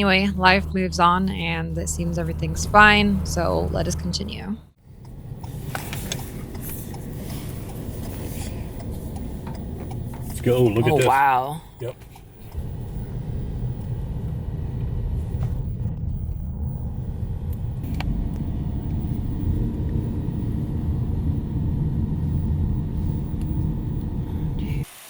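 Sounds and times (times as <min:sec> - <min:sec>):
car driving rumble: 0:00.0 - 0:24.9.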